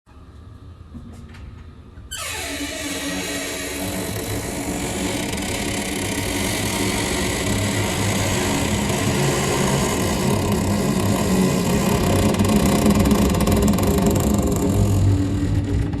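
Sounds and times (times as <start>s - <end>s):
door hinge creaking with reverb: 2.1s - 15.9s.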